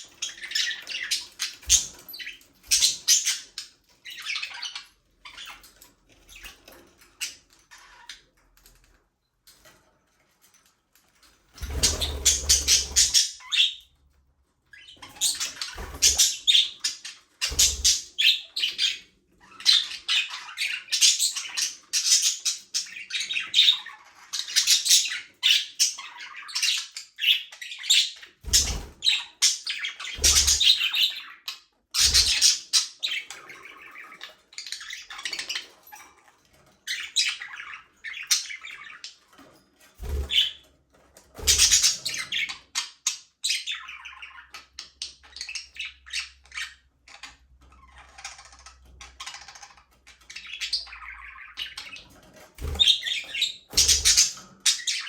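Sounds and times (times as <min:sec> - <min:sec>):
budgerigars chirping and warbling: 0:00.0 - 0:09.0, 0:11.2 - 0:14.0, 0:14.6 - 0:55.0.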